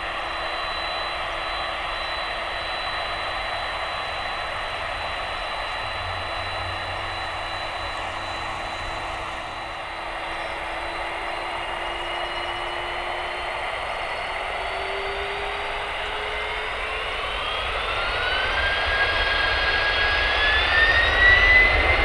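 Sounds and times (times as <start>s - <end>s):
jet engines idling: 0.0s - 22.0s
rising engine whine: 0.0s - 22.0s.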